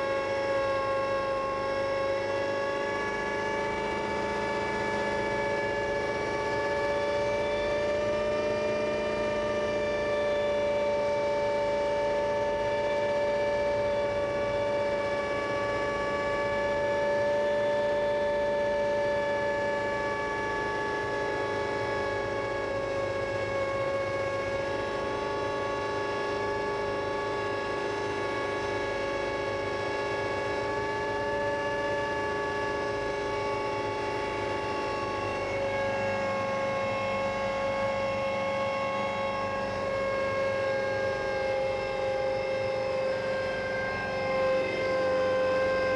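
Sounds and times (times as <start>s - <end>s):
helicopter engine whine: 0.0s - 45.9s.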